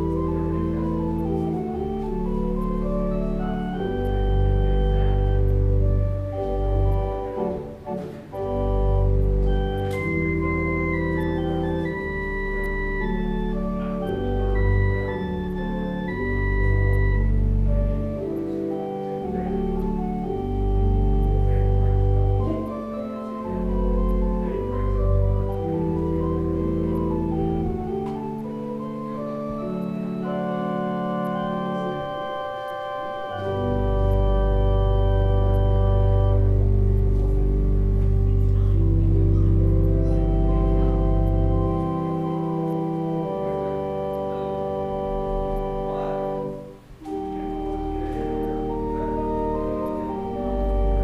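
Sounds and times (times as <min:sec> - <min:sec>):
church organ chords: 0:00.0 - 0:51.0.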